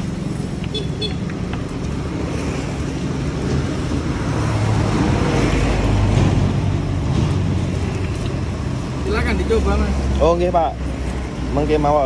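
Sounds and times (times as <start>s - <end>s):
road traffic rumbling past: 0.0s - 12.0s.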